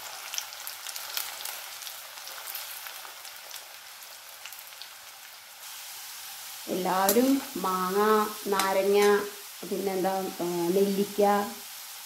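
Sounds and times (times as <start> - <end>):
yam pieces sizzling in hot oil: 0.0 - 12.0.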